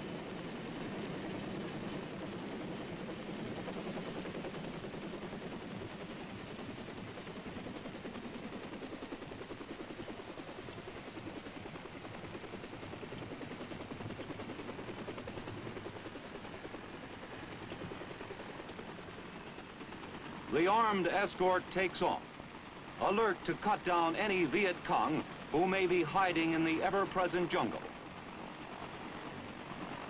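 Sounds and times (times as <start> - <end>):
helicopter engine noise: 0.0 - 30.0.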